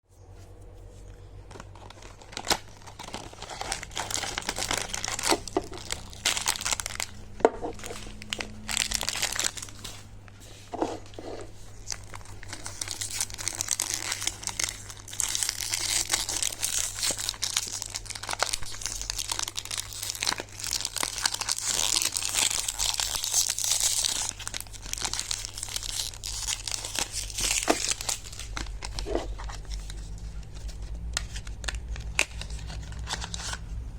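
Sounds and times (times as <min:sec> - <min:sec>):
packaging crinkling and tearing: 0:01.4 - 0:10.1, 0:10.8 - 0:33.8.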